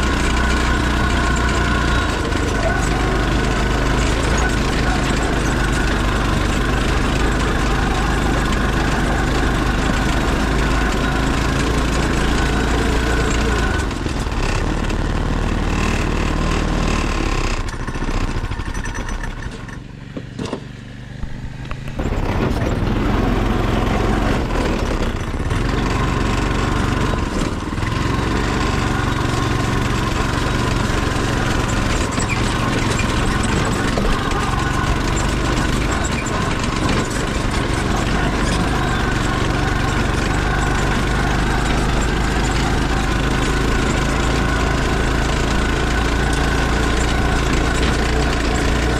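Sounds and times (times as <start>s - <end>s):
go-kart engine running: 0.0s - 48.9s.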